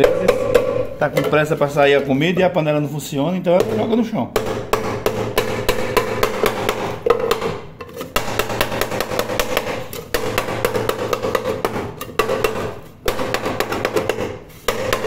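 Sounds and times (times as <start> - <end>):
hammer blows on wooden block: 0.0 - 2.1, 3.5 - 15.0.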